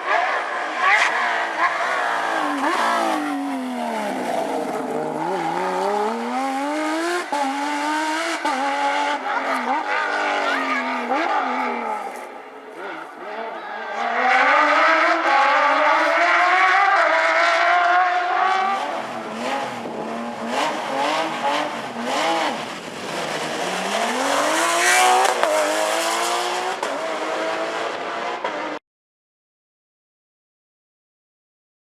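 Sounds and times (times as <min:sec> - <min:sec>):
rally car engine revving: 0:00.0 - 0:28.8.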